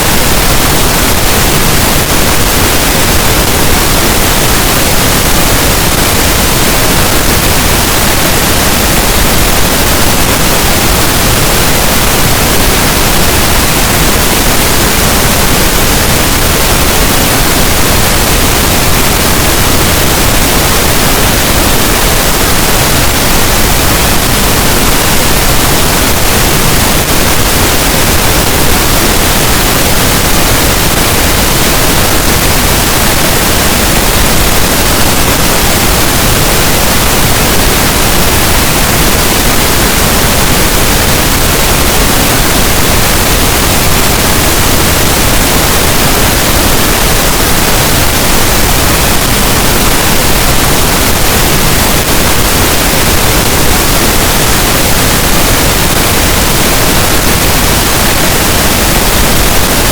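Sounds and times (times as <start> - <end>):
loud steady pink noise hiss: 0.0 - 59.9.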